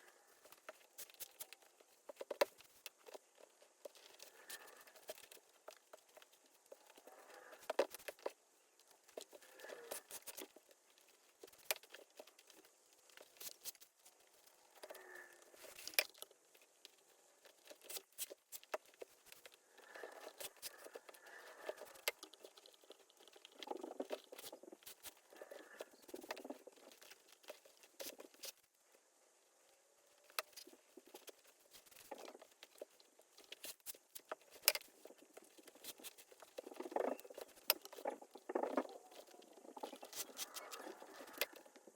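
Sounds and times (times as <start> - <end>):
leather rustling and scraping: 0.0 - 41.9.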